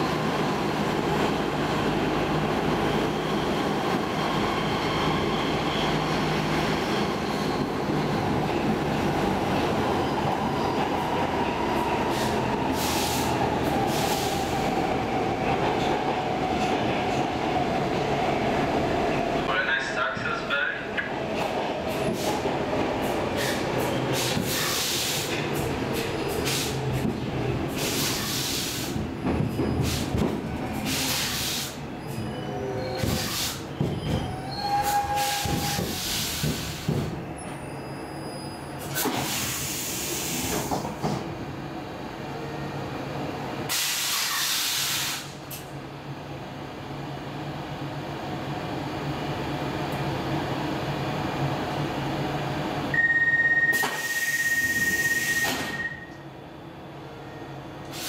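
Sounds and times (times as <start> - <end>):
train rumbling into station: 0.0 - 58.0.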